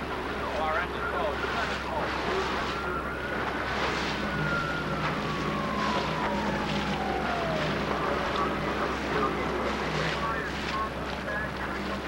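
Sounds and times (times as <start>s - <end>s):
boat engine noise: 0.0s - 12.0s
faint whine falling in pitch: 0.0s - 12.0s
low hum: 0.0s - 12.0s
wind: 0.0s - 12.0s.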